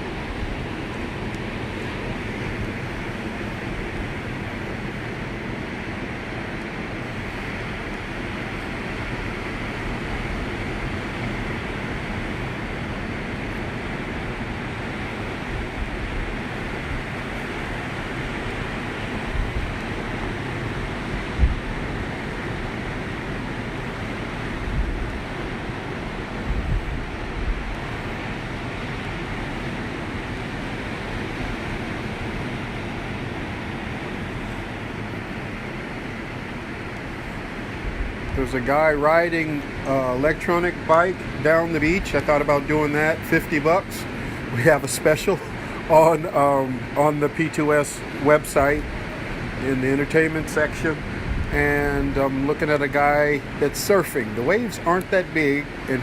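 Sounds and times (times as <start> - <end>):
wind buffeting microphone: 0.0 - 46.1, 47.7 - 56.0
ocean surf on beach: 0.0 - 56.0.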